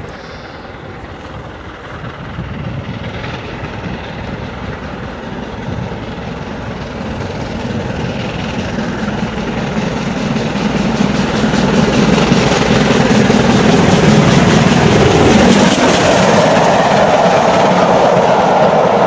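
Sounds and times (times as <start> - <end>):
steam locomotive approaching: 0.0 - 19.0.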